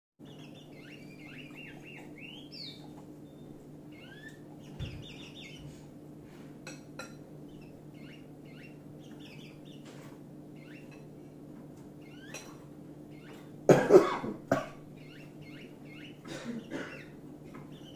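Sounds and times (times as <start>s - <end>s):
birds chirping: 0.2s - 17.9s
steady low hum: 0.2s - 17.9s.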